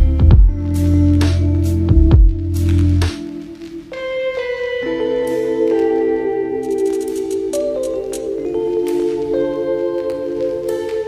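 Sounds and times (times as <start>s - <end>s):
held layered music notes: 0.0s - 11.0s.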